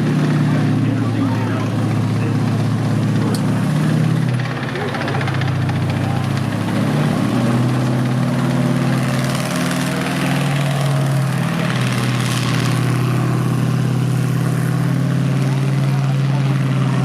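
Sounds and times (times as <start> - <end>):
tank engine running: 0.0 - 17.0.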